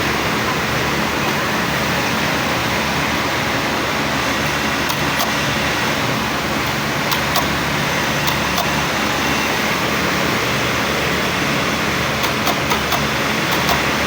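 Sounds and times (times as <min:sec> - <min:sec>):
knife-sharpening machine humming: 0:01.4 - 0:14.0.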